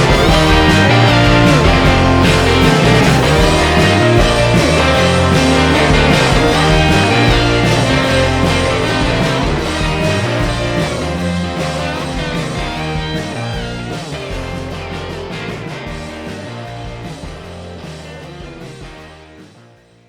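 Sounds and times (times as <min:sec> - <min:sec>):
rock music with guitar: 0:00.0 - 0:19.6.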